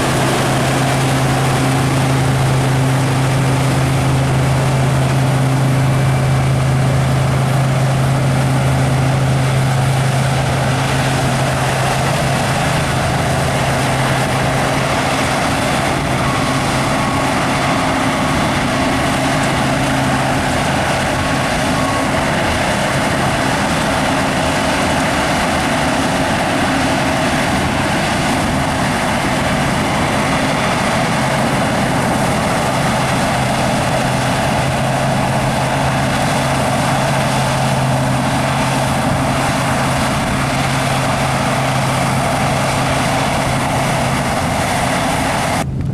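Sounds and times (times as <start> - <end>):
diesel engine humming: 0.0 - 45.9
harvest machinery running: 0.0 - 45.9.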